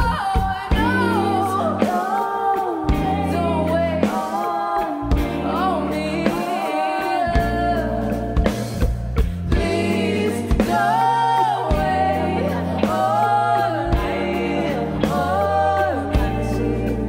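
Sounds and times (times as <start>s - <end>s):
steady bass line: 0.0s - 2.0s, 2.7s - 4.2s, 5.0s - 6.6s, 7.2s - 17.0s.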